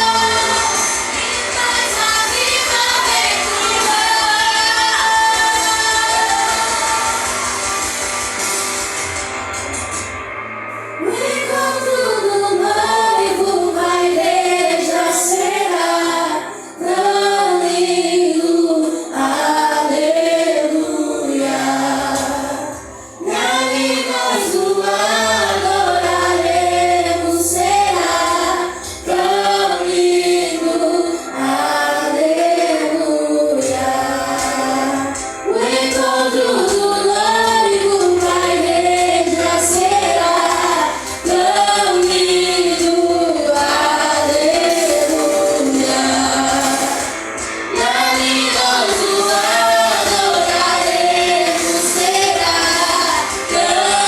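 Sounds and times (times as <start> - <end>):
female voices singing: 0.0 - 7.4, 11.0 - 54.0
instrumental backing with bass: 0.0 - 54.0.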